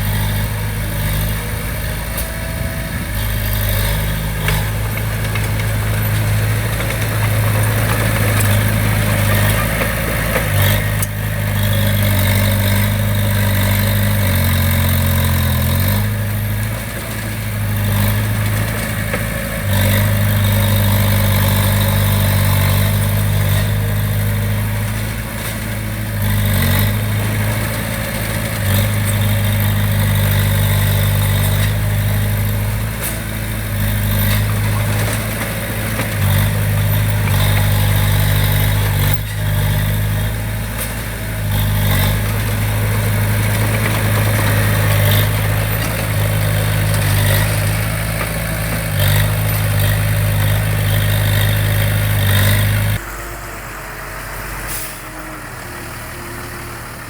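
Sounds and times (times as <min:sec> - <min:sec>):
heavy machine diesel engine: 0:00.0 - 0:57.0.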